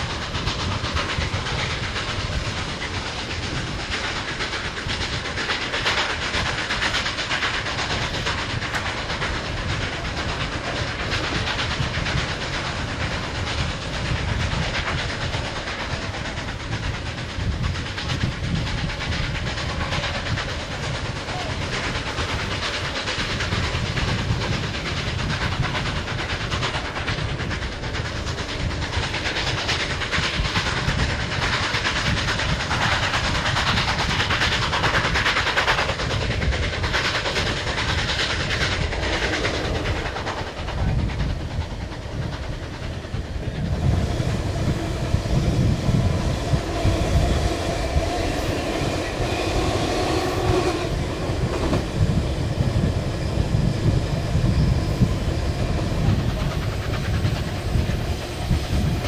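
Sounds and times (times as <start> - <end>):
train wheels clattering on rails: 0.0 - 59.0
wind noise: 0.0 - 59.0.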